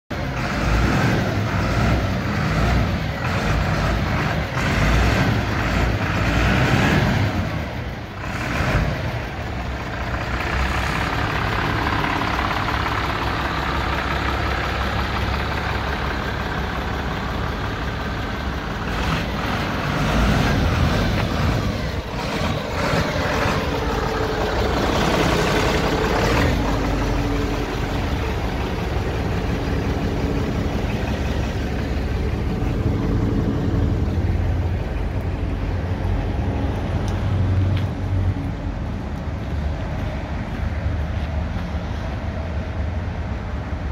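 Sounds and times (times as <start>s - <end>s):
diesel truck engine rumbling: 0.1s - 43.9s.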